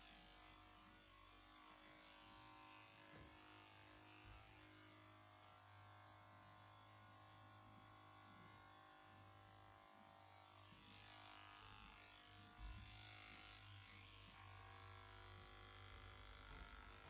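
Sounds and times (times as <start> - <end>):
electric clippers buzzing: 0.0 - 17.0.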